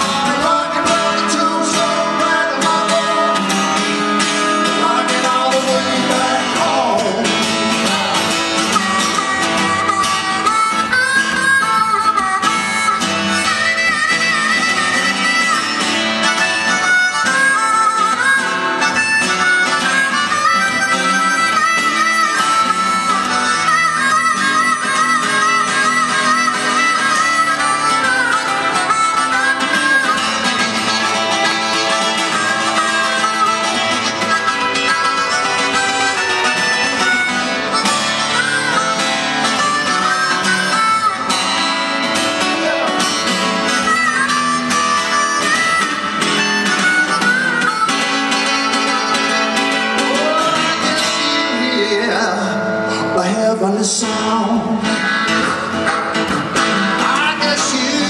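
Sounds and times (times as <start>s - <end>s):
harmonica solo with bending notes: 0.0s - 58.0s
strummed acoustic guitar: 0.0s - 58.0s.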